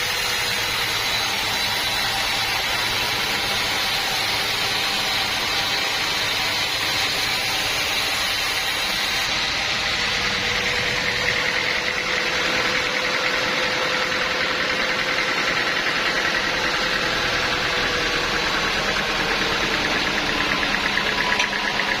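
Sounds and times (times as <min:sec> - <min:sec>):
sawmill engine and saw running: 0:00.0 - 0:22.0.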